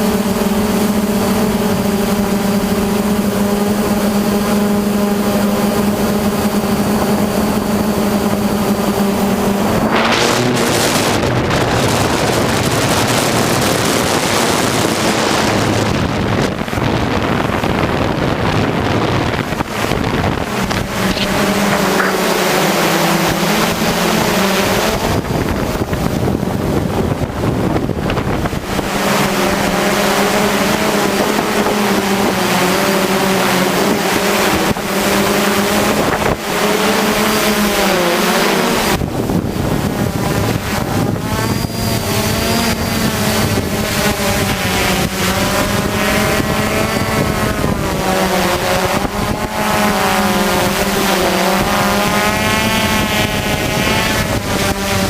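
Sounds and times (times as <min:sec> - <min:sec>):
drone motors humming: 0:00.0 - 0:55.0
wind on microphone: 0:00.0 - 0:55.0.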